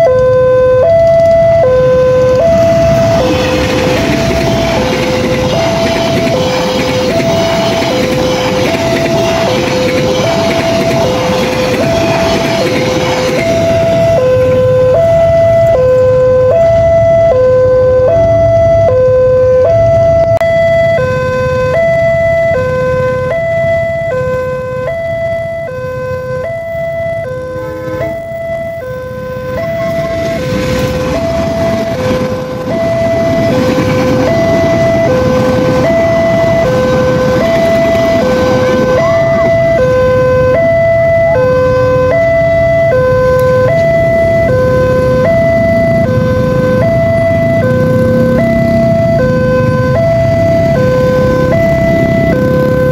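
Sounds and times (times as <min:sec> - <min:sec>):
passing train rumble: 0:00.0 - 0:52.9
two-tone crossing alarm: 0:00.0 - 0:52.9.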